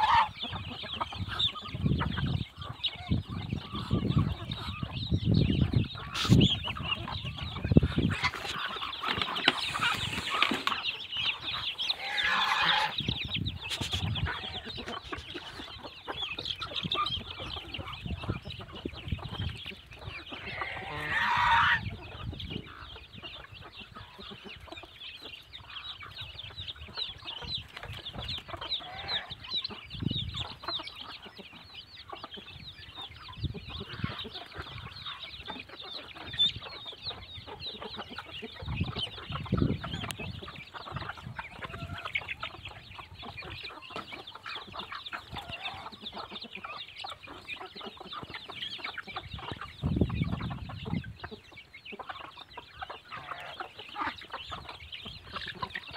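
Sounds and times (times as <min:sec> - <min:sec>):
chickens clucking: 0:00.0 - 0:55.9
chicks peeping: 0:00.0 - 0:55.9.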